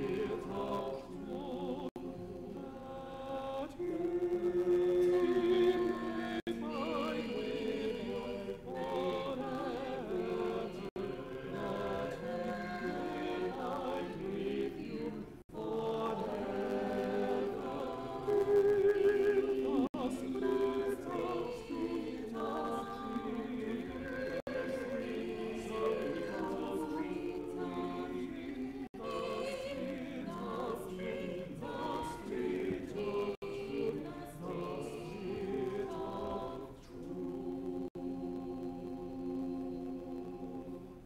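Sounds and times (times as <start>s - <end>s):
choir singing slowly in parts: 0.0s - 41.0s.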